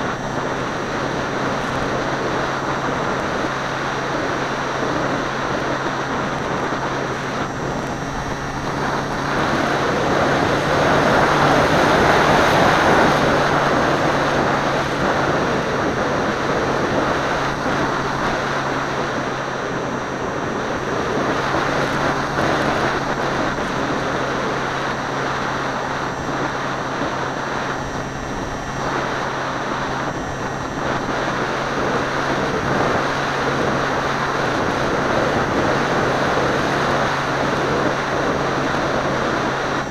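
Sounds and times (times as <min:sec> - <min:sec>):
model plane motor droning: 0:00.0 - 0:39.9
wind rushing over camera: 0:00.0 - 0:39.9.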